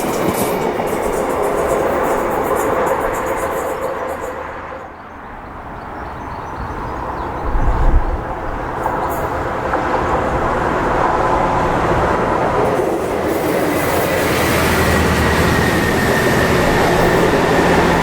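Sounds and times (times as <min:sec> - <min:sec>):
train rushing past: 0:00.0 - 0:18.0.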